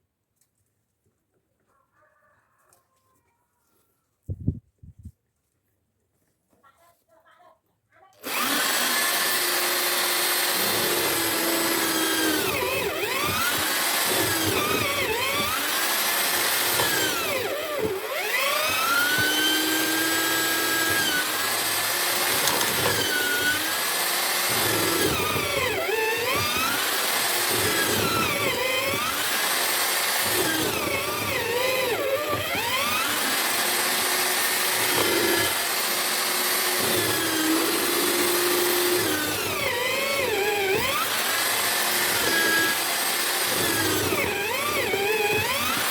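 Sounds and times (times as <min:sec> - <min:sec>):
drill motor whining: 0:08.2 - 0:45.9.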